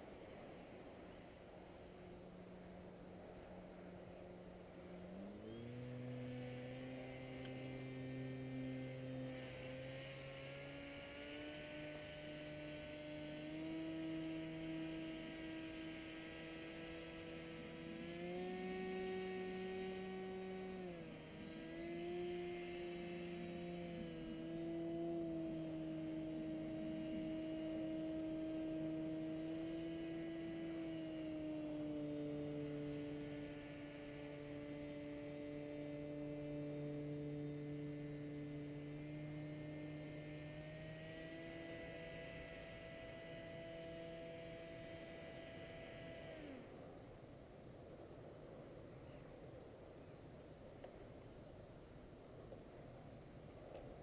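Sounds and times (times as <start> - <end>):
paraglider engine buzzing overhead: 0.0 - 51.4.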